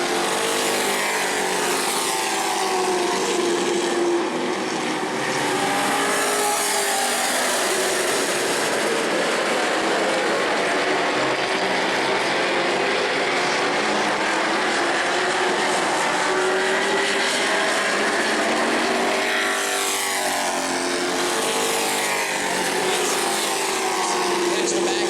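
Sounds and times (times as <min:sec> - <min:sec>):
race truck engines: 0:00.0 - 0:25.0.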